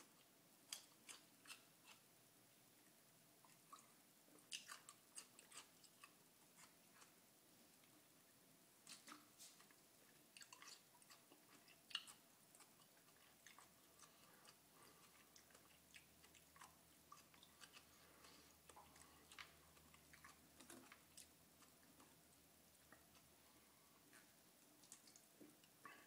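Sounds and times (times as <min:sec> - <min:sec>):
chewing with wet mouth clicks: 0:00.0 - 0:02.0, 0:03.4 - 0:07.2, 0:08.8 - 0:22.2, 0:24.1 - 0:26.0.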